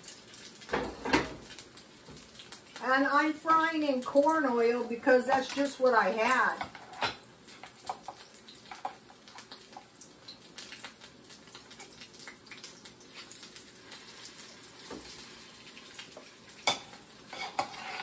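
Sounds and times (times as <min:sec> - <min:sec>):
food sizzling in a skillet: 0:00.0 - 0:18.0.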